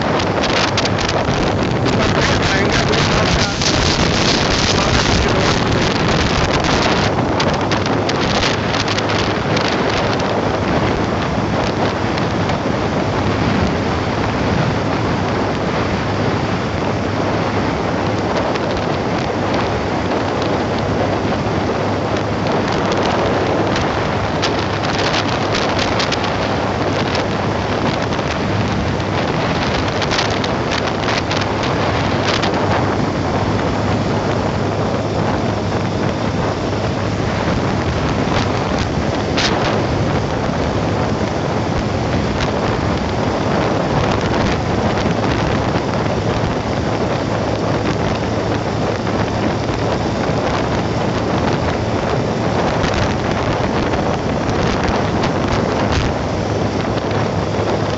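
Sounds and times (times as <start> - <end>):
motorcycle engine hum: 0.0 - 57.9
wind rushing over microphone: 0.0 - 57.9.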